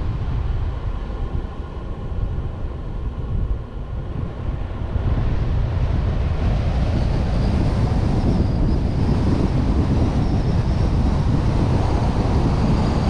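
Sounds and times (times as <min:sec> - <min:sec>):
road and engine rumble: 0:00.0 - 0:13.0
wind buffeting microphone: 0:00.0 - 0:13.0.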